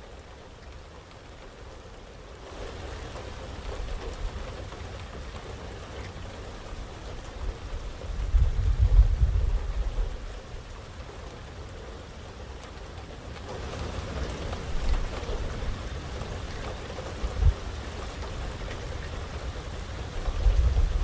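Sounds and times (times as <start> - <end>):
heavy rain pattering: 0.0 - 21.0.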